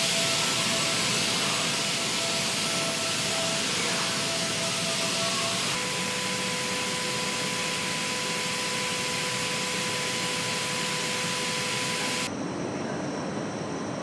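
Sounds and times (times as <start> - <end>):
factory hum: 0.0 - 14.0.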